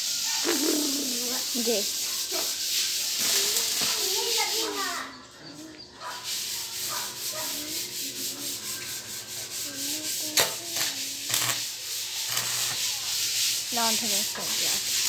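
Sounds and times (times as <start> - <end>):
arc welding crackling hiss: 0.0 - 5.1, 6.1 - 15.0.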